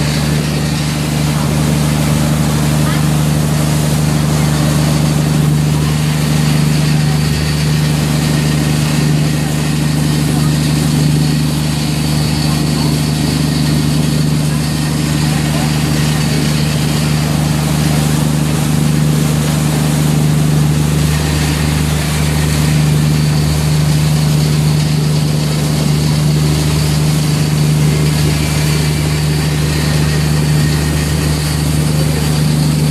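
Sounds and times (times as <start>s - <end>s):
boat engine droning: 0.0s - 32.9s.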